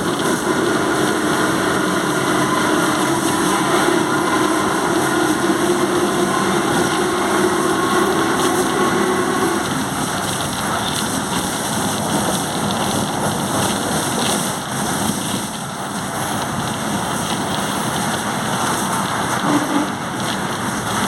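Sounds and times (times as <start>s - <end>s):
bus engine: 0.0s - 21.0s
road noise: 0.0s - 21.0s.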